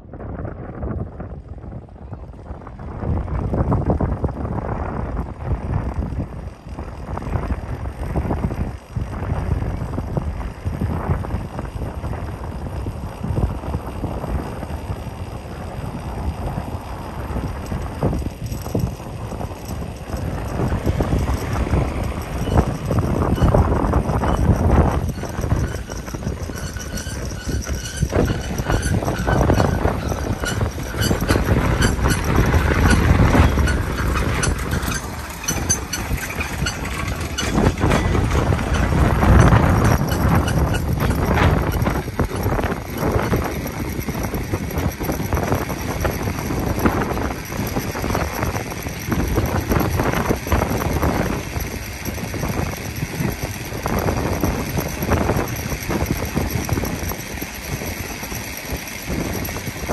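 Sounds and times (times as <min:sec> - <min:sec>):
tramcar rattling on rails: 0:01.4 - 0:59.9.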